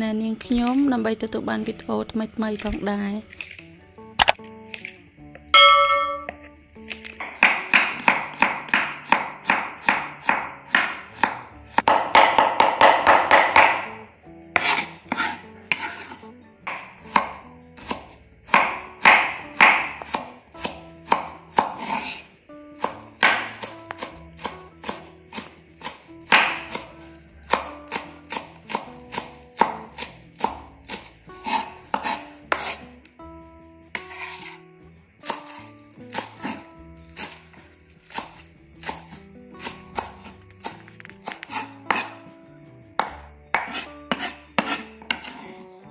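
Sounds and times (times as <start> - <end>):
knife chopping on wooden board: 5.6 - 14.0, 14.6 - 32.8, 34.0 - 34.6, 35.2 - 42.2, 43.0 - 45.6.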